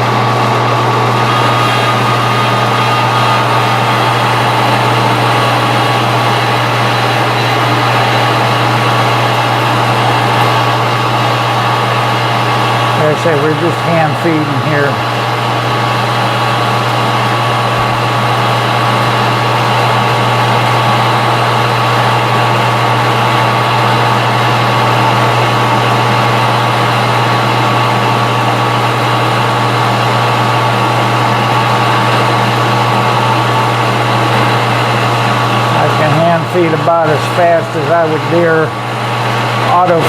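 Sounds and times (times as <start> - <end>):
metal lathe humming and whining: 0.0 - 40.0.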